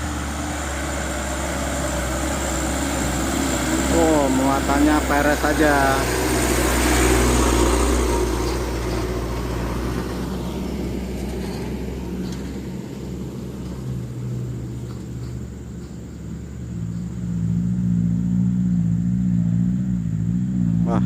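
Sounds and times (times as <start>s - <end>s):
diesel truck engine: 0.0s - 21.0s.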